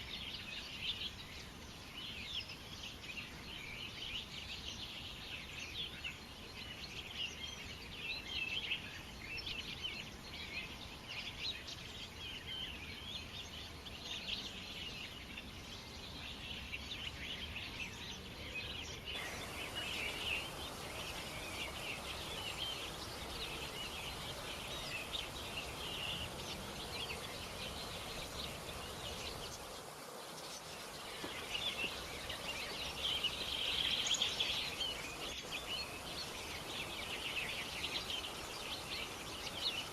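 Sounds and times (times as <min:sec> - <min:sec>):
outdoor background hiss: 0:00.0 - 0:39.9
small birds chirping: 0:00.0 - 0:39.9.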